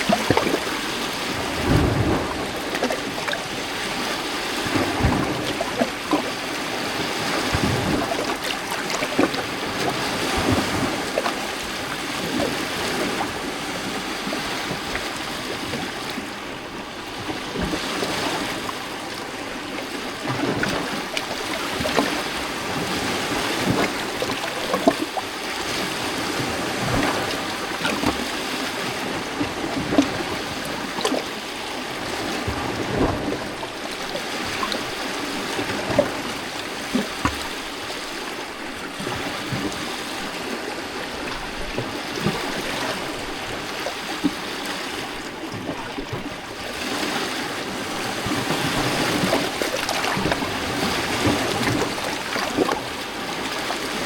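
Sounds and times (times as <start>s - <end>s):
water splashing against rocks: 0.0s - 54.0s
waves washing on rocky shore: 0.0s - 54.0s.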